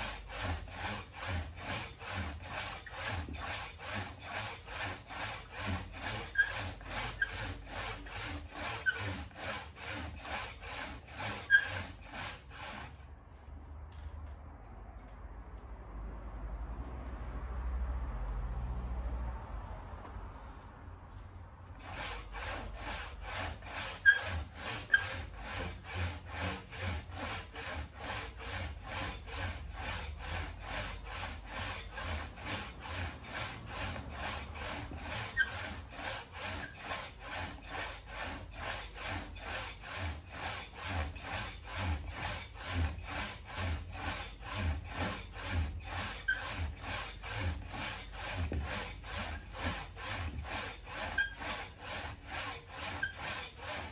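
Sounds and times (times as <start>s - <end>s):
hand saw cutting branch: 0.0s - 13.1s, 21.1s - 53.9s.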